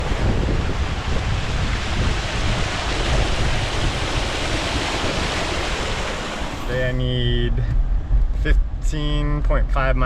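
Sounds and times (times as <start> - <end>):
steady rushing noise: 0.0 - 10.0
wind buffeting microphone: 0.0 - 10.0.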